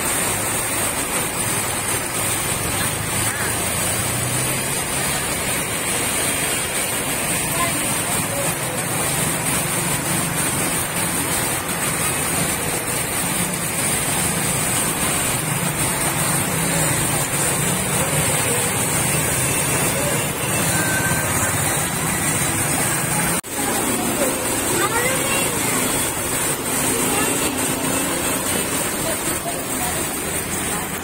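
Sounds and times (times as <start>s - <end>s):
heavy rain and running water: 0.0s - 31.0s
vehicle engines humming: 0.0s - 31.0s.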